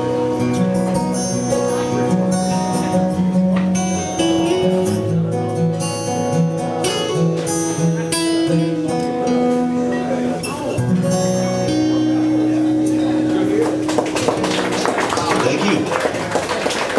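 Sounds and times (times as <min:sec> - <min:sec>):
acoustic guitar strumming: 0:00.0 - 0:16.4.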